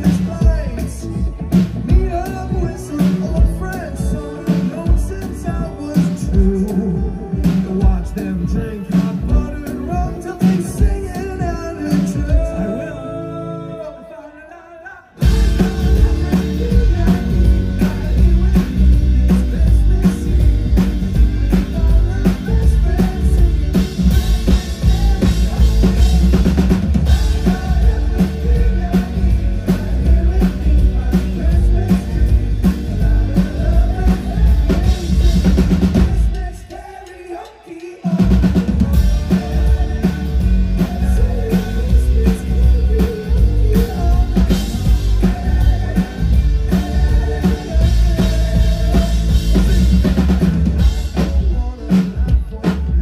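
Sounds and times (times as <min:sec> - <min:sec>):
band music with singing: 0:00.0 - 0:53.0.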